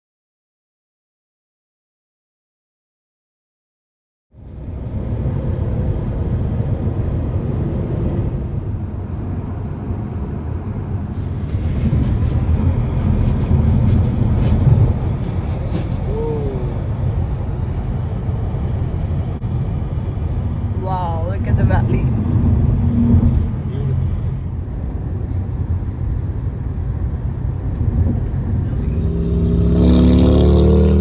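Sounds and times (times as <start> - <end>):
road rumble: 4.3 - 31.0
wind buffeting inside car: 4.4 - 30.3.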